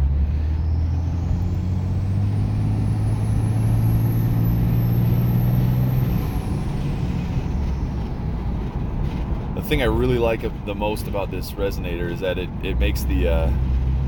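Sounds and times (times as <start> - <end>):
diesel engine at full throttle: 0.0 - 14.0.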